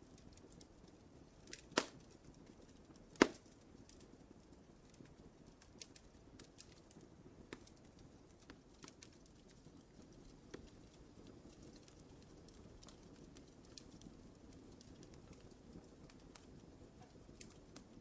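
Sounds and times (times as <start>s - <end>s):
low rumble of flame: 0.0s - 18.0s
wood fire crackling: 0.0s - 18.0s.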